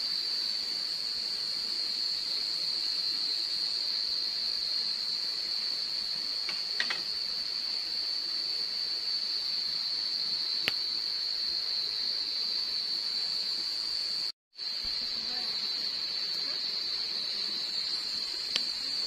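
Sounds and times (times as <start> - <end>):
night insects droning: 0.0 - 19.0.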